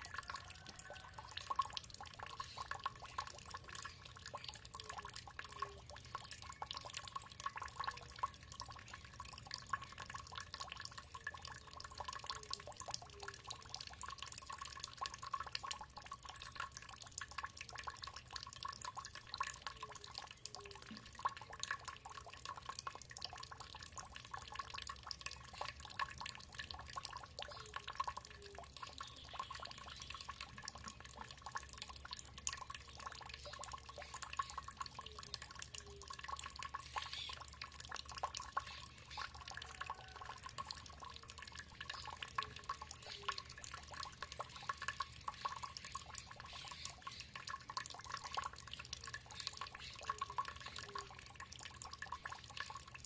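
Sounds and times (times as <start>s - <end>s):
drips and splashes: 0.0s - 53.0s
water trickling: 0.0s - 53.0s.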